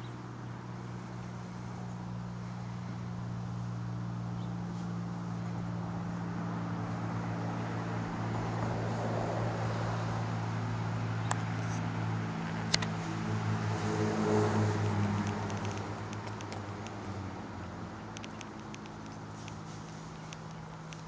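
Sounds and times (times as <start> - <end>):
airplane engine and propeller drone: 0.0 - 21.0.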